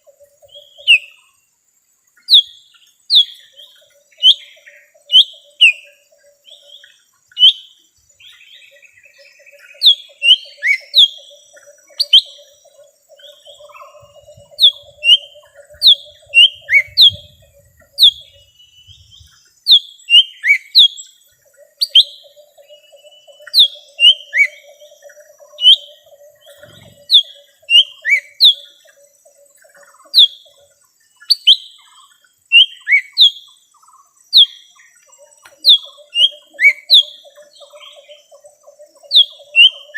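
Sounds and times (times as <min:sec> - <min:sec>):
bird whistling calls: 0:00.0 - 0:01.2, 0:02.3 - 0:12.6, 0:13.2 - 0:21.1, 0:21.8 - 0:29.0, 0:30.1 - 0:30.5, 0:31.2 - 0:33.6, 0:34.3 - 0:34.7, 0:35.5 - 0:38.4, 0:39.0 - 0:39.9.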